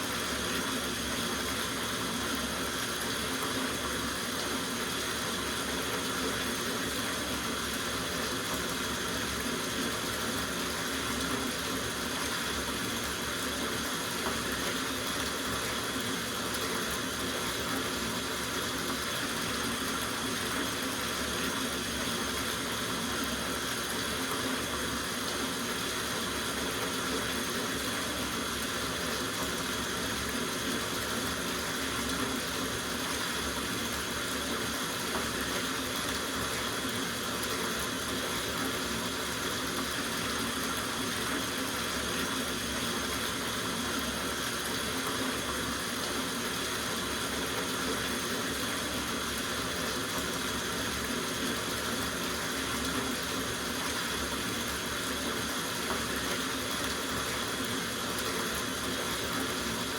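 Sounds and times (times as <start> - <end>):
tap water running into bathtub: 0.0 - 59.9.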